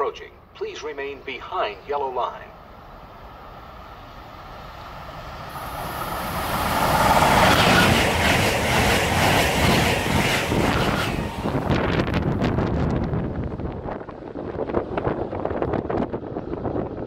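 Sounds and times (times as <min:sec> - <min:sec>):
train rushing and rumbling: 0:01.2 - 0:17.0.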